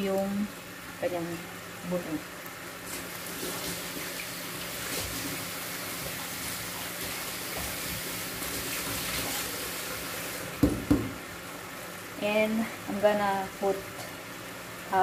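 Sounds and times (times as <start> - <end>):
sauce bubbling and sizzling in pan: 0.1 - 15.0.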